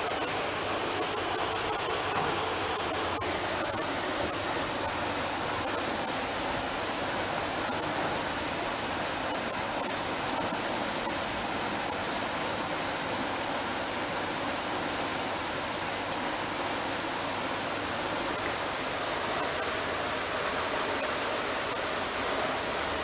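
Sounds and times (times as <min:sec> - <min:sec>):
steady high-pitched hiss: 0:00.0 - 0:23.0.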